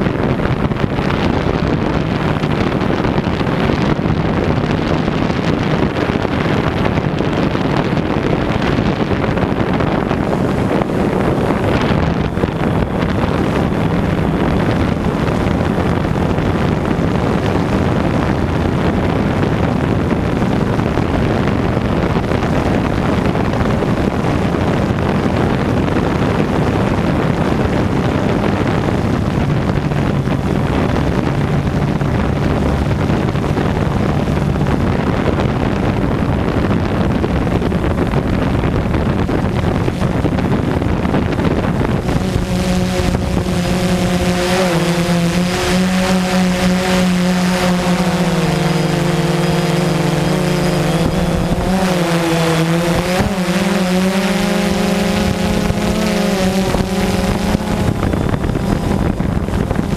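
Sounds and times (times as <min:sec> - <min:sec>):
quadcopter propellers and motors: 0:00.0 - 0:59.9
wind buffeting microphone: 0:00.0 - 0:59.9.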